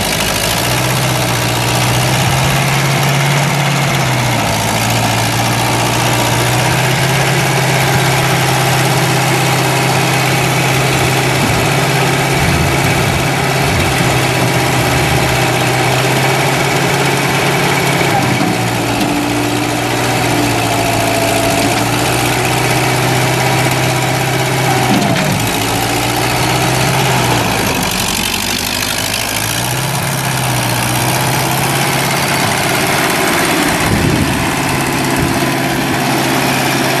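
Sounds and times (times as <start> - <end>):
skid steer engine running: 0.0 - 37.0.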